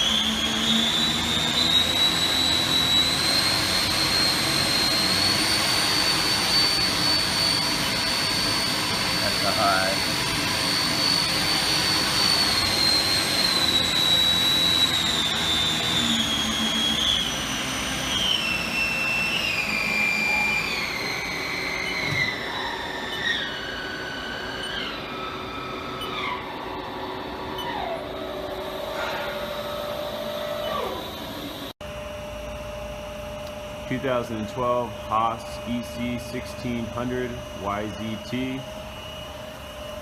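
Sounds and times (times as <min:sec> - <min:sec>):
machine spindle whining: 0:00.0 - 0:40.0.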